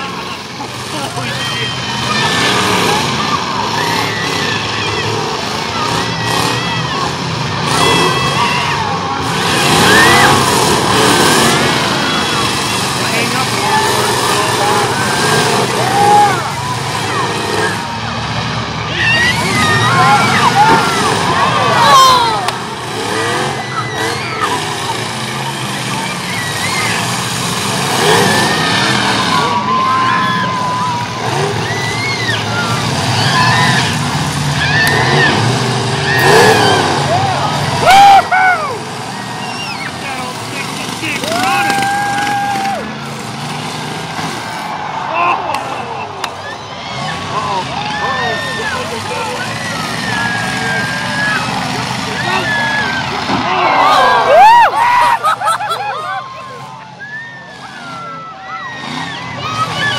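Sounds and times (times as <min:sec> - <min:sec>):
crowd shouting: 0:00.0 - 0:59.9
truck engines revving: 0:00.0 - 0:59.9.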